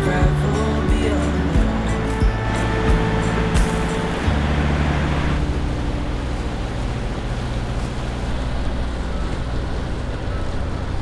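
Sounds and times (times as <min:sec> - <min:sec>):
choppy water against boat: 0:00.0 - 0:11.0
wind: 0:00.0 - 0:11.0.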